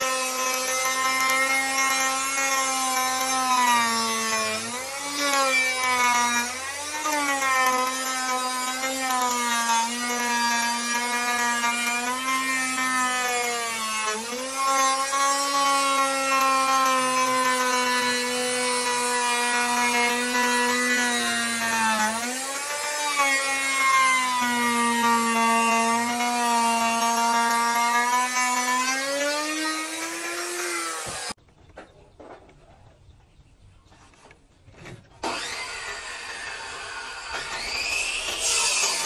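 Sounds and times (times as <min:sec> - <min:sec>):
router cutting wood: 0:00.0 - 0:31.4, 0:35.2 - 0:39.0.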